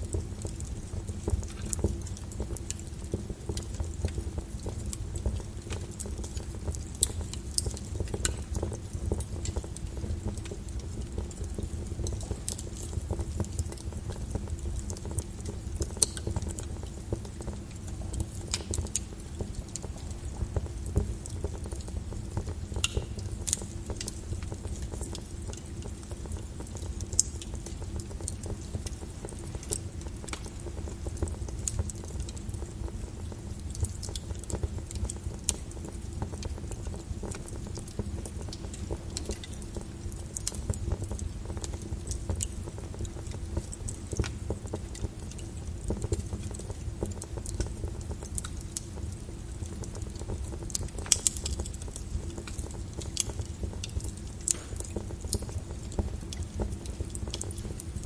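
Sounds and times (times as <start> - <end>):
rain against a window: 0.0 - 58.0
wood fire crackling: 0.0 - 58.0.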